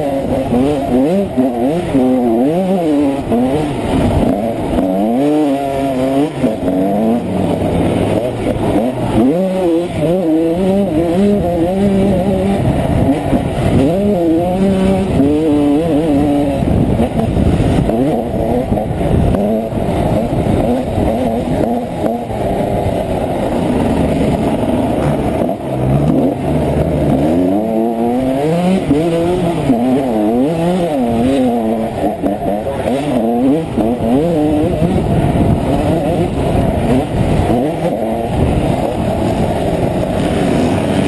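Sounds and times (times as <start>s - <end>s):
motocross engine revving hard: 0.0s - 41.0s
wind rumble on camera: 0.0s - 41.0s.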